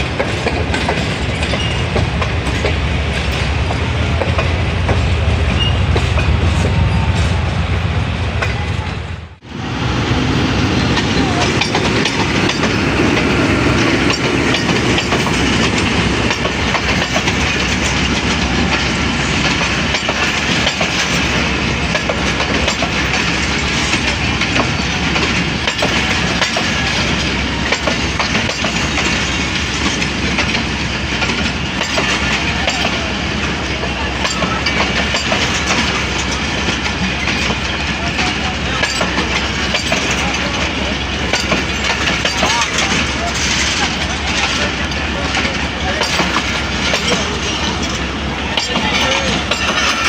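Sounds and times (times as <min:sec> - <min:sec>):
train wheels clattering over rails: 0:00.0 - 0:09.1, 0:10.3 - 0:50.0.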